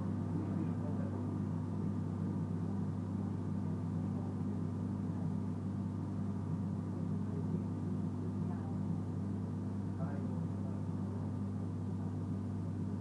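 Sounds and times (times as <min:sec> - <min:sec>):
low hum inside a train: 0:00.0 - 0:13.0.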